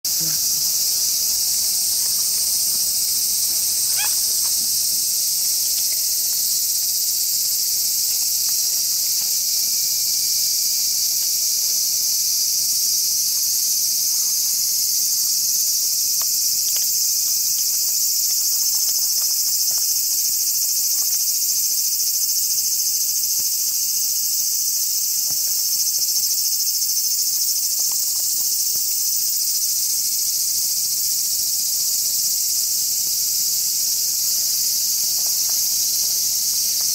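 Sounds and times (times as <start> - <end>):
high-pitched insect chorus: 0.0 - 36.9.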